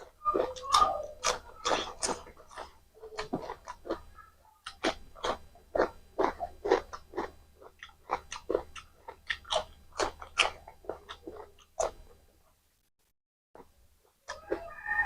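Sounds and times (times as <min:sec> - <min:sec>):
chewing and biting food: 0:00.0 - 0:12.3, 0:13.6 - 0:15.0.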